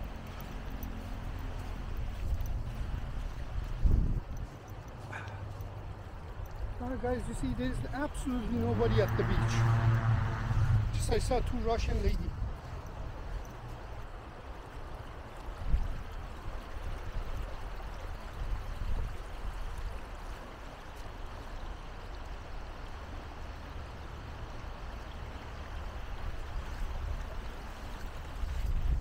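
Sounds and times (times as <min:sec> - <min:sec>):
wind rumbling on microphone: 0:00.0 - 0:23.0, 0:25.5 - 0:29.0.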